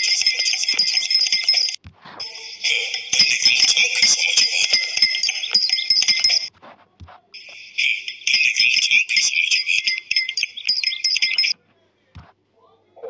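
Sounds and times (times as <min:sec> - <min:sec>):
high bright jingling: 0:00.0 - 0:06.5, 0:07.4 - 0:11.6.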